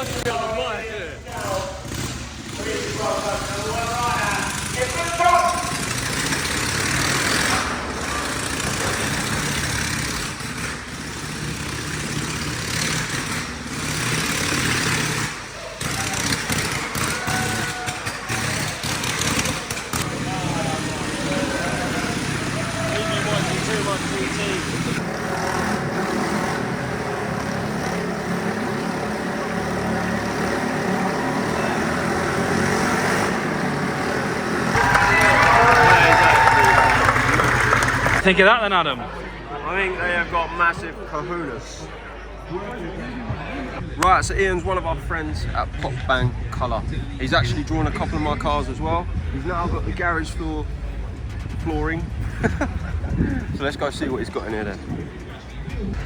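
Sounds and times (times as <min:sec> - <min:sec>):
engine drone of circling vehicles: 0:00.0 - 0:56.0.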